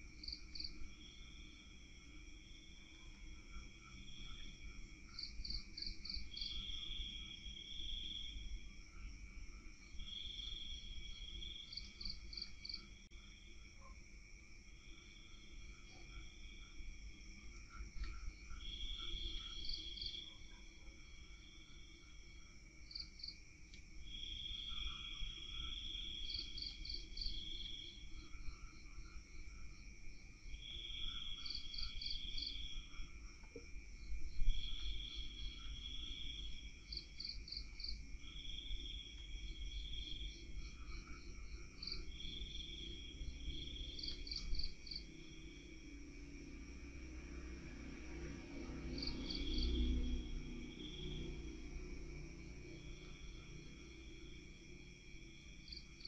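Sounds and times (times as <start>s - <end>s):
insect trills: 0.0s - 56.0s.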